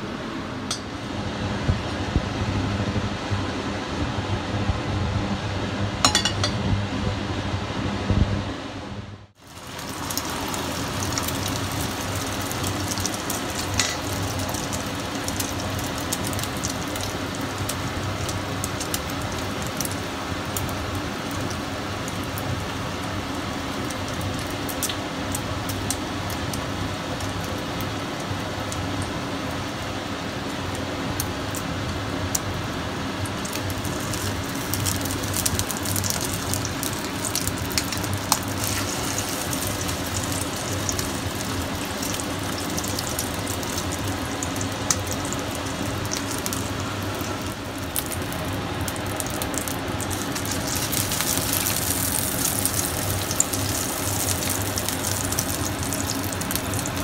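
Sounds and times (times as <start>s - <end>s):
batter frying in oil: 9.3s - 57.0s.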